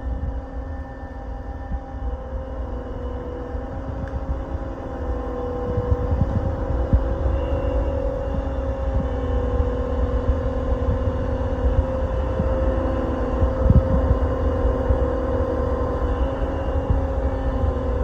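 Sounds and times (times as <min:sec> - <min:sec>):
large engine running: 0:00.0 - 0:18.0.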